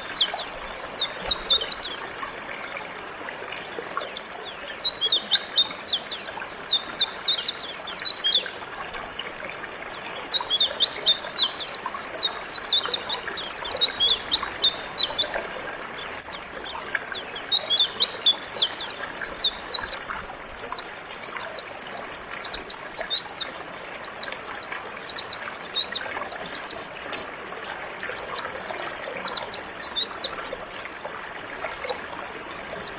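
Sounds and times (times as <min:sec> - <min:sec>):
bird twittering song: 0:00.0 - 0:02.3, 0:04.3 - 0:08.6, 0:10.0 - 0:31.0, 0:31.6 - 0:32.9
river flowing: 0:00.0 - 0:32.9.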